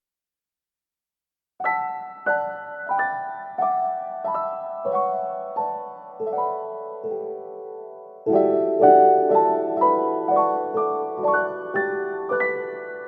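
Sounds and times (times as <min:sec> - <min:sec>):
slow piano notes: 0:01.6 - 0:13.0.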